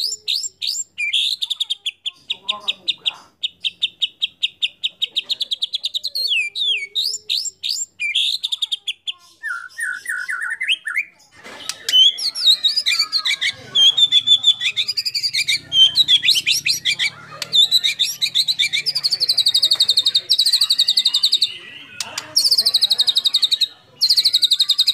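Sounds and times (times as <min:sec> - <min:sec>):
songbird singing: 0:00.0 - 0:24.9.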